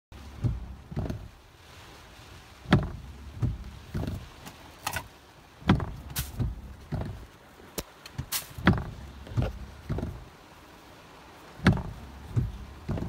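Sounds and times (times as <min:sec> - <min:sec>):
wind gusting against car: 0:00.1 - 0:13.0
wind-driven rain hiss: 0:00.2 - 0:13.0.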